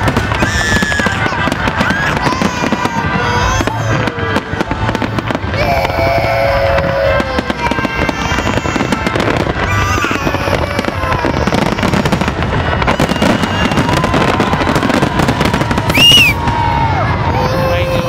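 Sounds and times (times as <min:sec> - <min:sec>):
fireworks bangs and crackling: 0:00.0 - 0:18.0
fireworks whistling: 0:00.0 - 0:18.0.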